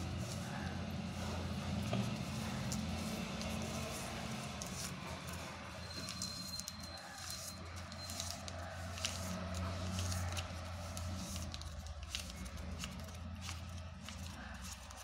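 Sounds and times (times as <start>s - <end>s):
paper crinkling: 0.0s - 15.0s.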